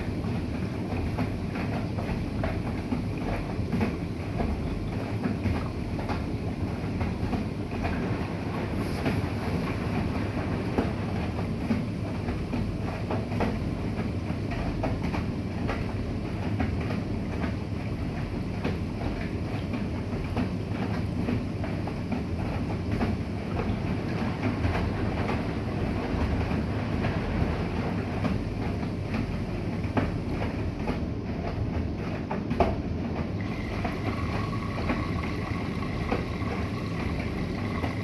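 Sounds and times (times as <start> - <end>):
washing machine rumbling: 0.0 - 38.0.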